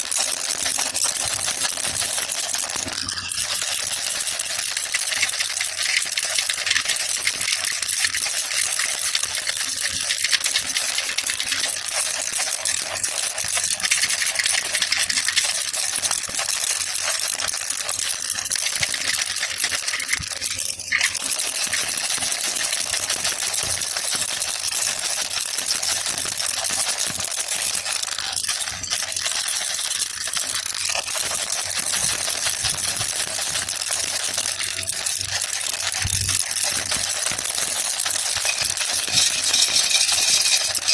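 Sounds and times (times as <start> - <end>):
baby rattle shaken: 0.0 - 40.9.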